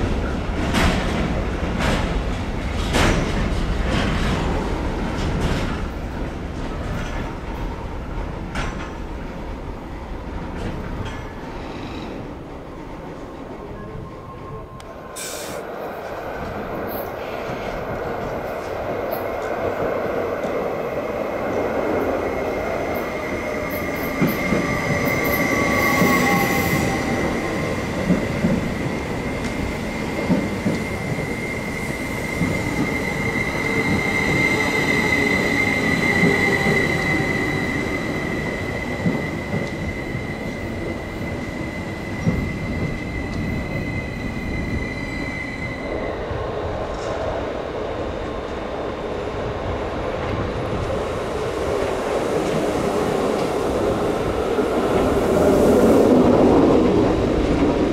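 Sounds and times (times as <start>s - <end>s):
train rumbling past: 0.0s - 57.9s.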